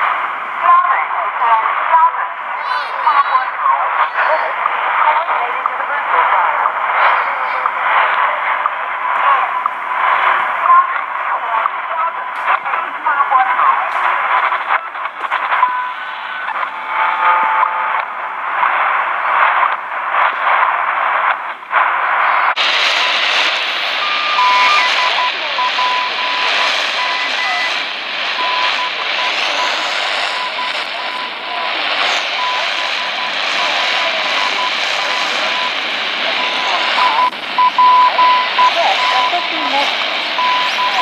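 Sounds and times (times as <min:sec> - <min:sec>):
radio static and hiss: 0:00.0 - 0:41.0.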